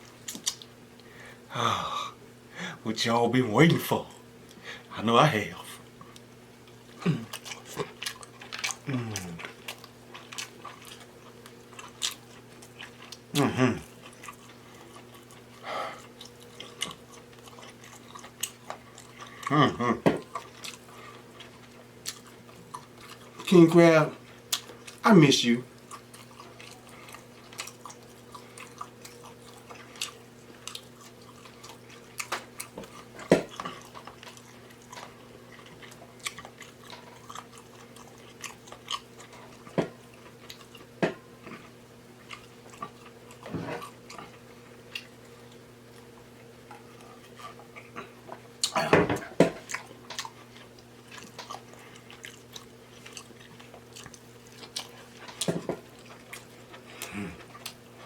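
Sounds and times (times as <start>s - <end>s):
chewing and mouth smacking: 0.0s - 1.1s, 6.0s - 23.5s, 24.1s - 25.0s, 25.8s - 48.8s, 49.6s - 58.0s.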